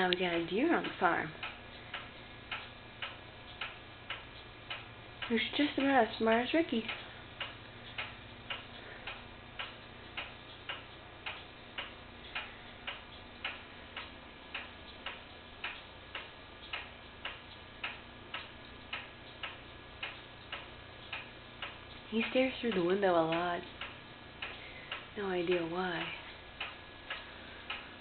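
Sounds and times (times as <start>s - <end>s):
faint steady hum: 0.0s - 28.0s
regular ticking: 0.0s - 28.0s.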